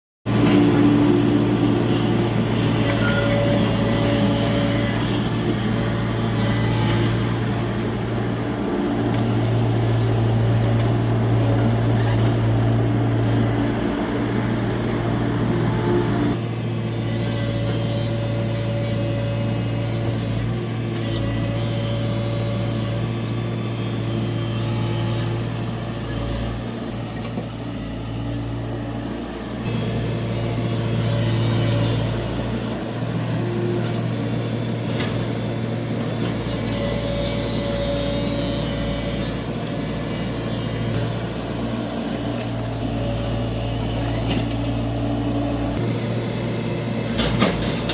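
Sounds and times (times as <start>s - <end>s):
excavator diesel engine running: 0.3s - 47.9s.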